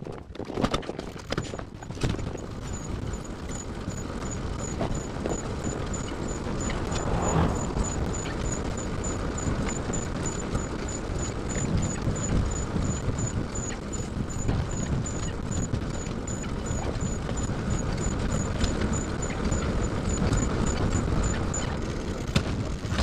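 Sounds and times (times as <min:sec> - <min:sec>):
trailer wheels rumbling and rattling: 0:00.0 - 0:23.0.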